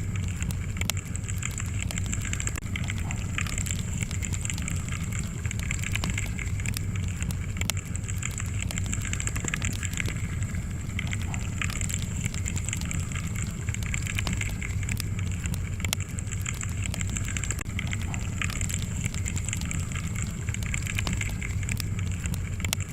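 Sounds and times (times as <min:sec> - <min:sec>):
low rumble of burning logs: 0:00.0 - 0:22.9
wood fire crackling: 0:00.0 - 0:22.9.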